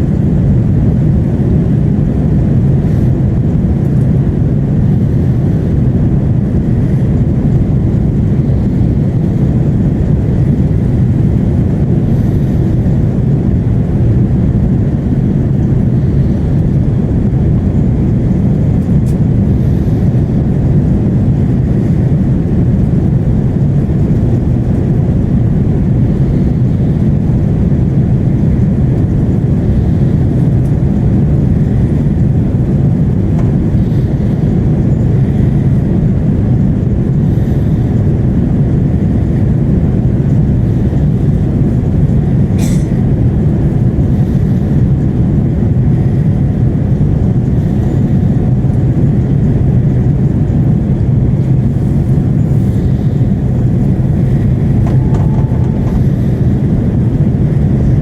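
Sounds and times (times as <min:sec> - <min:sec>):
airliner cabin engine roar: 0:00.0 - 0:58.0.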